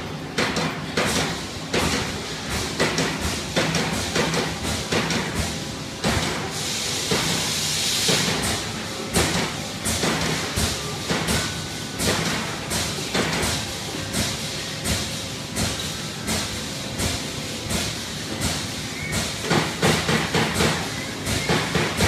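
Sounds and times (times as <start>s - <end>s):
steady machine hiss: 0.3s - 22.0s.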